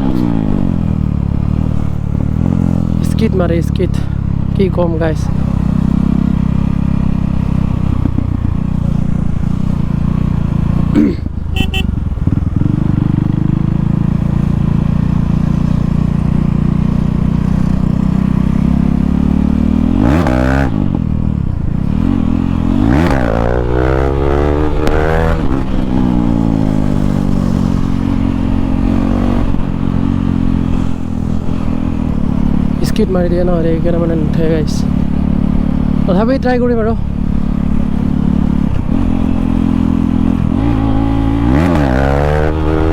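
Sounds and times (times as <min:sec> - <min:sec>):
loud motorcycle engine revving: 0:00.0 - 0:42.9.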